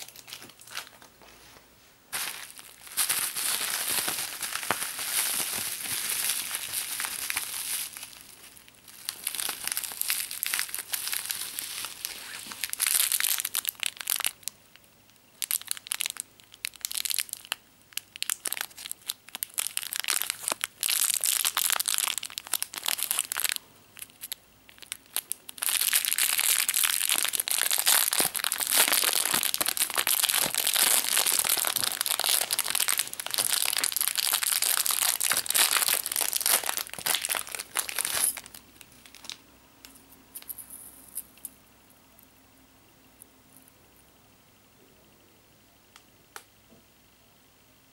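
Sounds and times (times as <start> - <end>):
bubble wrap and plastic bag crinkling: 0.0 - 14.6, 15.4 - 39.4.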